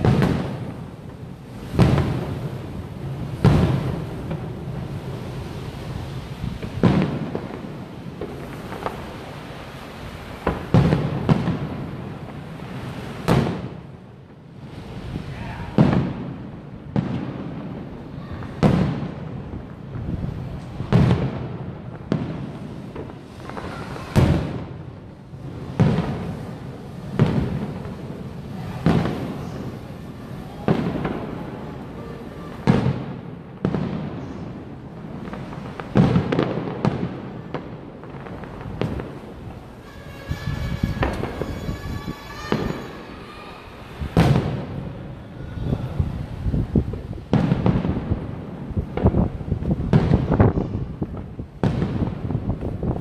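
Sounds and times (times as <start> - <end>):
fireworks booming: 0.0 - 53.0.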